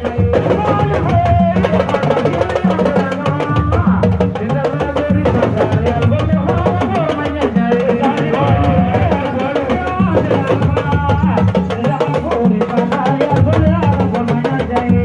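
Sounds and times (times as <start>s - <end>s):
drumming: 0.0s - 15.0s
wavering voice singing: 0.0s - 15.0s.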